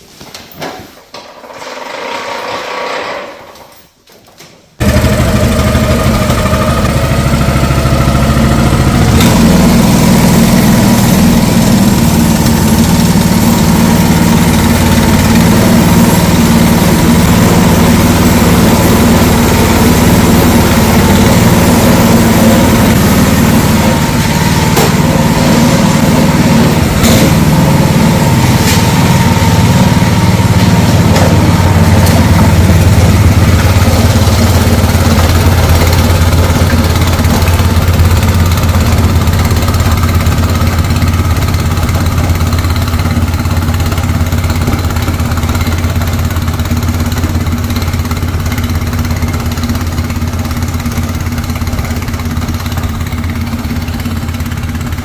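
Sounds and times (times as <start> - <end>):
snow blower engine running: 4.8 - 55.0.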